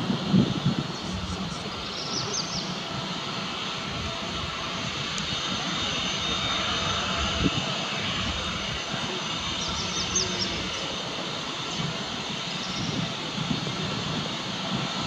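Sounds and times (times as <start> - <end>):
high jet engine whine: 0.0 - 15.0
jet engine rumble: 0.0 - 15.0.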